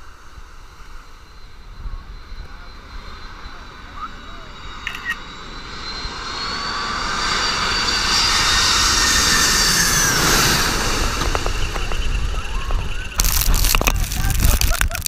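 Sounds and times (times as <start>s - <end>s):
high engine whine: 0.0s - 15.0s
jet airliner engines overhead: 0.0s - 15.0s.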